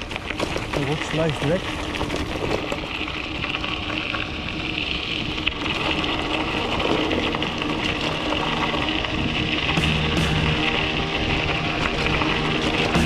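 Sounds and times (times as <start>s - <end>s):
bicycle tyres crunching on gravel: 0.0s - 13.0s.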